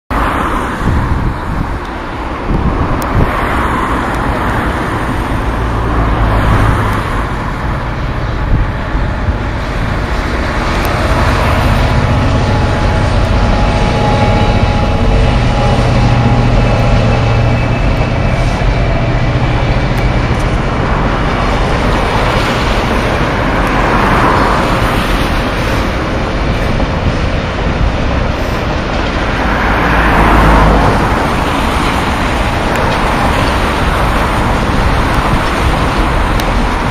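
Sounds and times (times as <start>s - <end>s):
diesel locomotive engine drone: 0.1s - 36.9s
freight wagons rumbling by: 0.2s - 36.9s.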